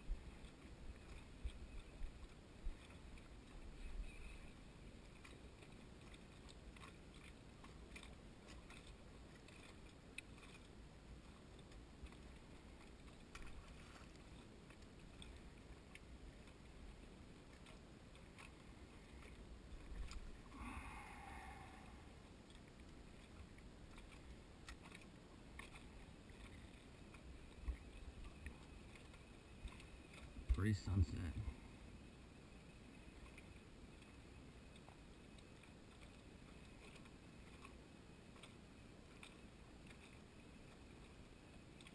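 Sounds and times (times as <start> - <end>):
small waves lapping a dock: 0.0 - 41.9
light ticks: 0.1 - 21.5, 22.2 - 31.6, 32.5 - 41.9.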